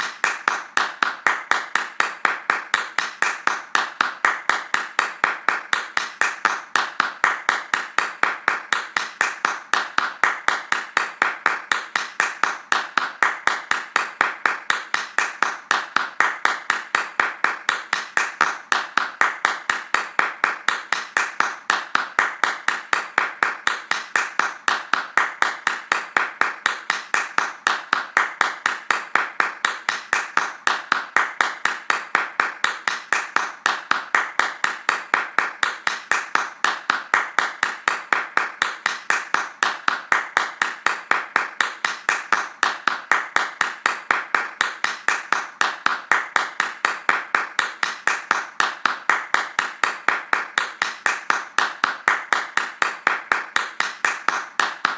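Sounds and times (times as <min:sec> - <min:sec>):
hands clapping fast: 0:00.0 - 0:54.9.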